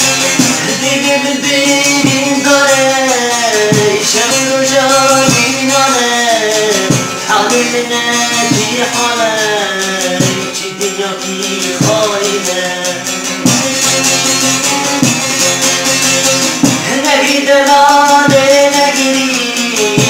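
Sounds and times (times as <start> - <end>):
long-necked lute strummed fast: 0.0 - 20.0.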